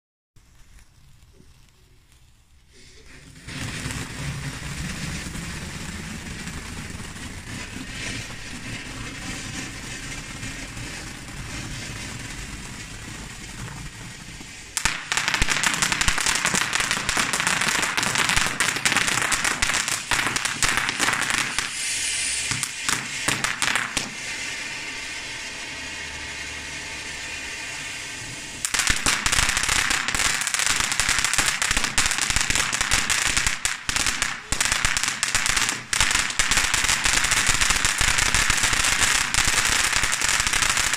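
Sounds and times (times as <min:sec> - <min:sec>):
firework crackling: 0:00.4 - 0:40.9
ground fountain firework hissing: 0:00.4 - 0:40.9.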